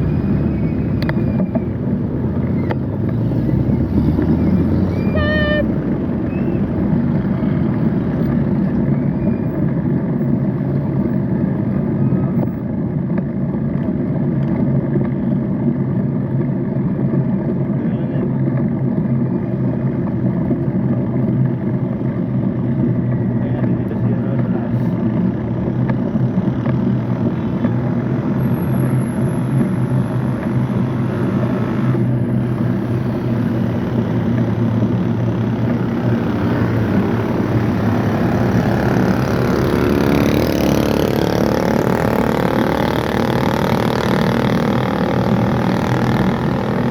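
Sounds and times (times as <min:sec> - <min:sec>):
road noise: 0:00.0 - 0:46.9
vehicle engines droning: 0:00.0 - 0:46.9.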